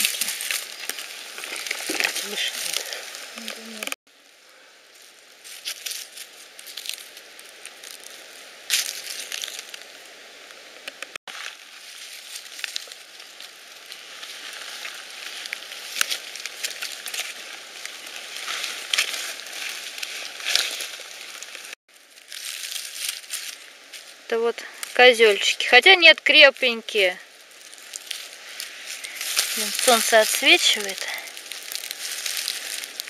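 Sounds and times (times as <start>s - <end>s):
twigs snapping: 0.0s - 3.9s, 5.5s - 9.9s, 10.8s - 24.1s, 27.3s - 33.0s
leaf litter rustling and crackling: 0.0s - 10.1s, 11.3s - 33.0s.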